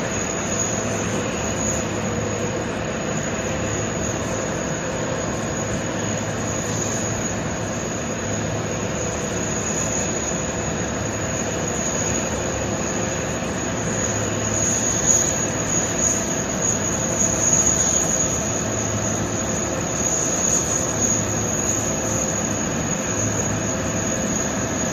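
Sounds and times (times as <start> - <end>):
jet-like whine: 0.0 - 24.9
rumble and hiss: 0.0 - 24.9.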